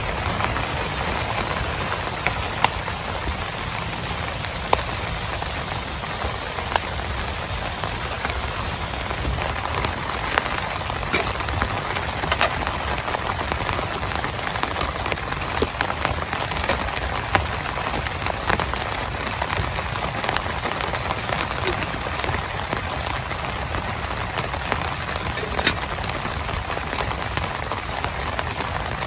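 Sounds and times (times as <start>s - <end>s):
heavy rain: 0.0s - 29.0s
raindrop hits: 0.0s - 29.0s.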